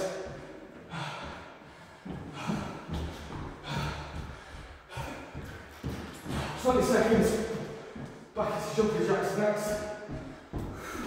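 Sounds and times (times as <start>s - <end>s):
man breathing hard: 0.0s - 11.0s
footfalls on wooden floor: 2.0s - 11.0s.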